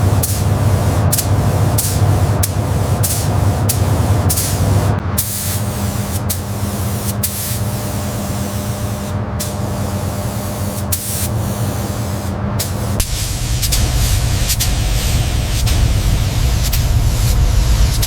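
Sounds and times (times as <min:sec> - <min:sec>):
hissing spray bursts: 0:00.0 - 0:18.0
steady mechanical hum: 0:00.0 - 0:18.0.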